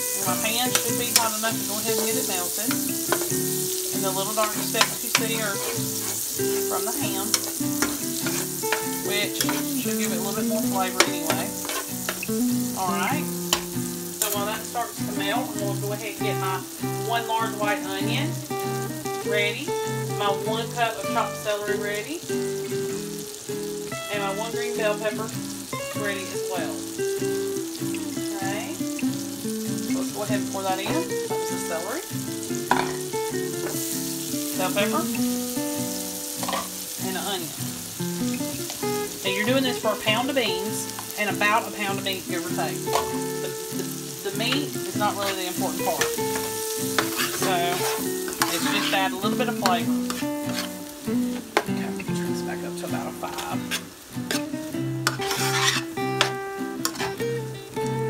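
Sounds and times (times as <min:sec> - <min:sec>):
background music: 0:00.0 - 0:48.3
vegetables sizzling in a pan: 0:00.0 - 0:58.0.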